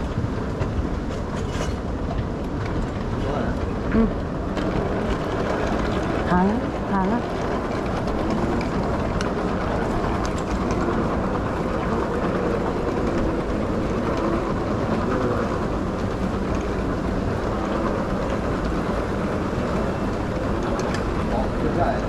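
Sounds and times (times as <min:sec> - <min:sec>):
moving walkway rumble: 0:00.0 - 0:22.0
terminal hall hum: 0:00.0 - 0:22.0.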